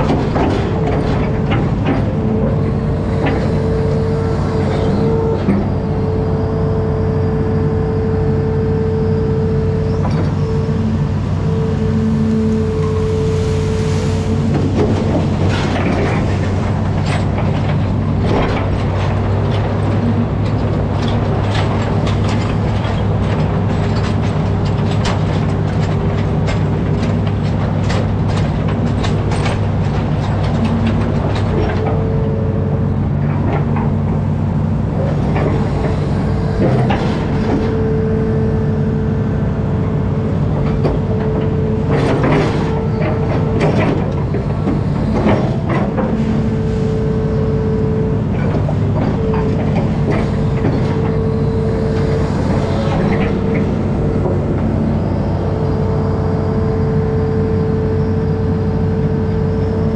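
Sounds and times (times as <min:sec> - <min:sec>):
excavator diesel engine drone: 0:00.0 - 0:59.9.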